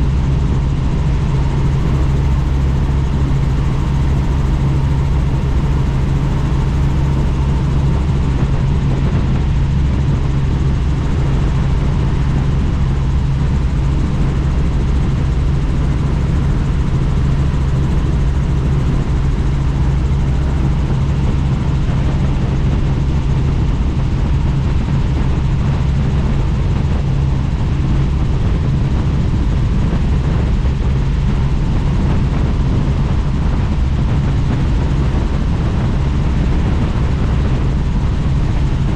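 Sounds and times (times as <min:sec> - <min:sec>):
helicopter rotor and engine drone: 0:00.0 - 0:38.9
rushing wind: 0:00.0 - 0:38.9.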